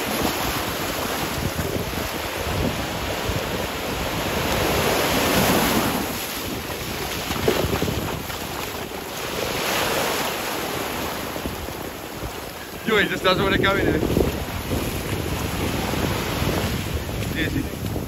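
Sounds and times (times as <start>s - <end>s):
small surf waves washing: 0.0s - 18.0s
wind buffeting microphone: 0.0s - 18.0s.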